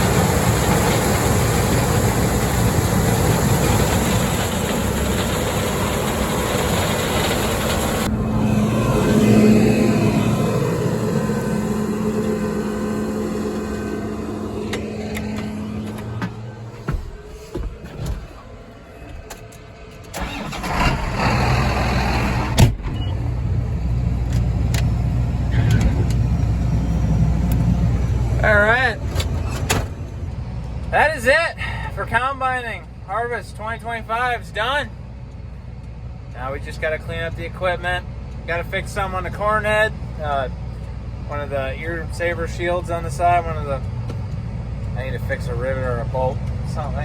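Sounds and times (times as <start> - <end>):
low machine hum: 0.0 - 21.3, 22.8 - 47.0
combine harvester running: 0.0 - 47.0
engine cranking and idling: 0.0 - 47.0.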